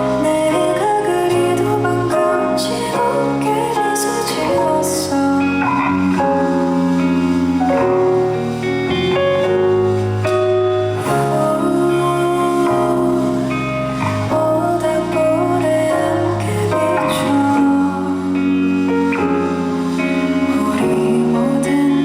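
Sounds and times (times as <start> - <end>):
guitar playing: 0.0 - 22.0
live band playing slow song: 0.0 - 22.0.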